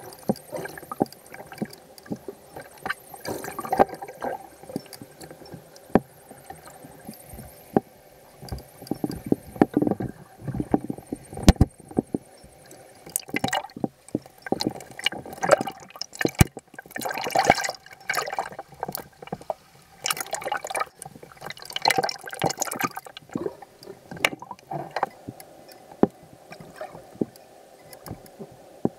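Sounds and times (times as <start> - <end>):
water sloshing and bubbling: 0.0 - 28.9.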